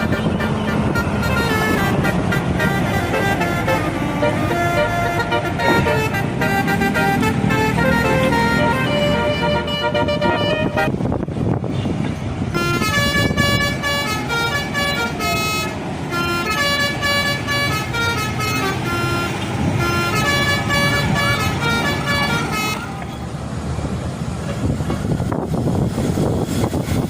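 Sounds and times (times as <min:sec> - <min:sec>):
bus horn playing melody: 0:00.0 - 0:11.3, 0:12.4 - 0:23.2.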